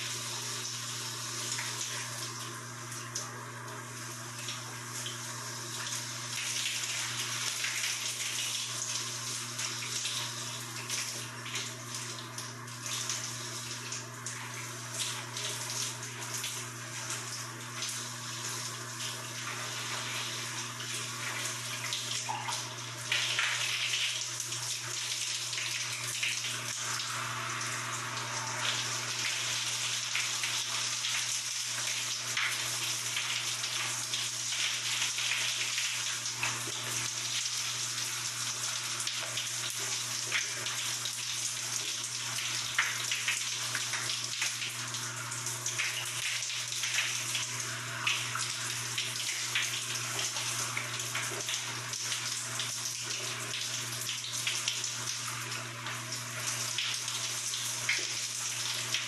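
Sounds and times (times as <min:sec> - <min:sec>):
shower water spraying: 0:03.9 - 0:59.0.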